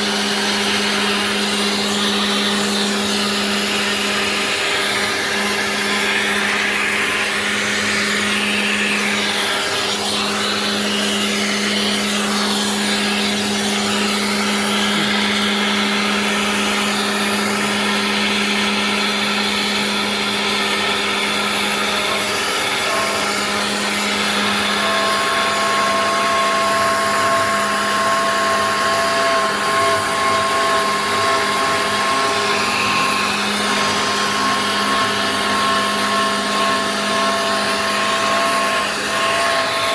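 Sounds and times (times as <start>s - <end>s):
cutter milling stock: 0.0s - 39.9s
router spindle whine: 0.0s - 39.9s.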